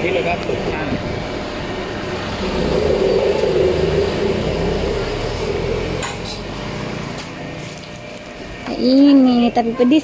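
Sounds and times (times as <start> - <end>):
machine hum and rumble: 0.0 - 10.0.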